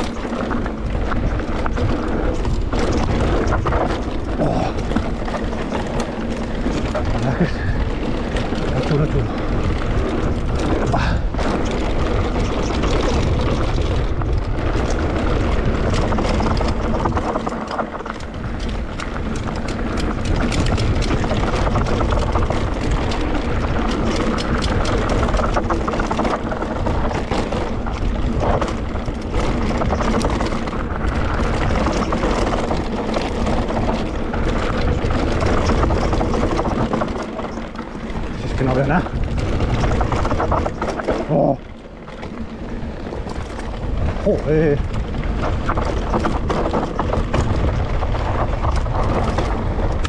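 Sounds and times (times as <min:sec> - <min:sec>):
bike frame rattling: 0:00.0 - 0:50.0
tyres rolling on dirt trail: 0:00.0 - 0:50.0
wind on microphone: 0:00.0 - 0:50.0.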